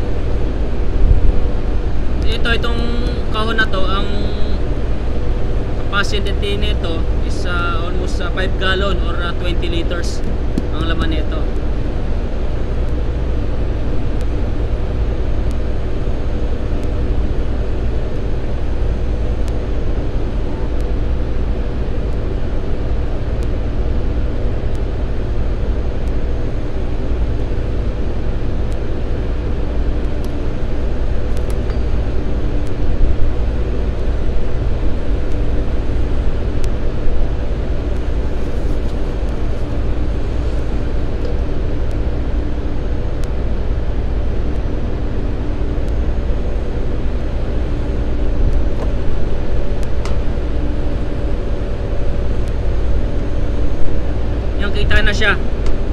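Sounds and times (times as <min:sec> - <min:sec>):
machinery drone: 0:00.0 - 0:55.9.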